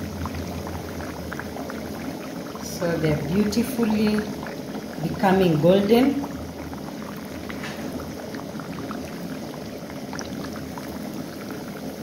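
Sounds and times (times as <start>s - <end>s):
hot oil sizzling and bubbling: 0.0s - 12.0s
small crackles of frying: 0.0s - 12.0s.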